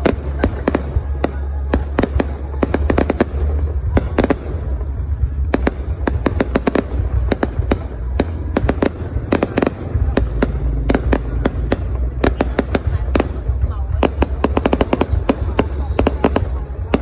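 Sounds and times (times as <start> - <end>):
fireworks bursting with bangs: 0.0 - 17.0
low rumble: 0.0 - 17.0.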